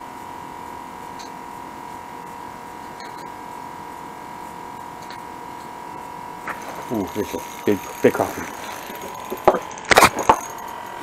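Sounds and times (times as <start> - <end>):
high-pitched electrical hum: 0.0 - 11.0.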